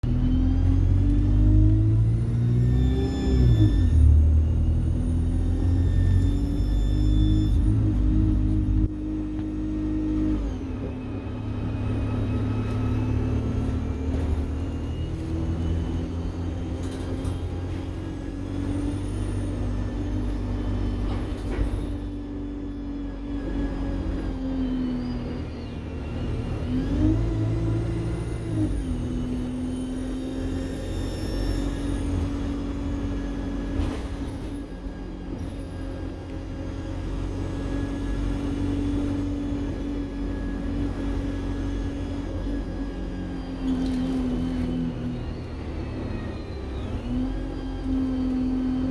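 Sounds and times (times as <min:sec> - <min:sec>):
bus engine pulling: 0:00.0 - 0:48.9
turbocharger whine: 0:00.0 - 0:48.9.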